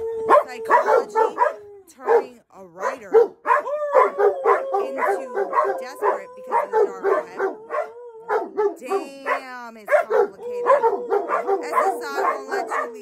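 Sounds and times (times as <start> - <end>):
dog yelping: 0.0 - 13.0
dog barking rapidly: 0.3 - 13.0.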